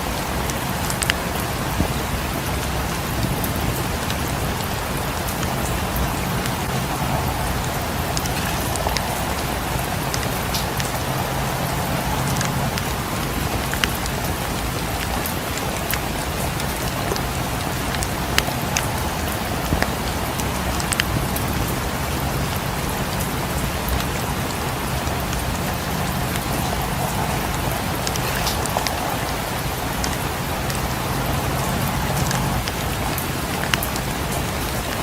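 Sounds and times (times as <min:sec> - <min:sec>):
fireplace crackling: 0:00.0 - 0:34.0
steady rain falling: 0:00.0 - 0:35.0.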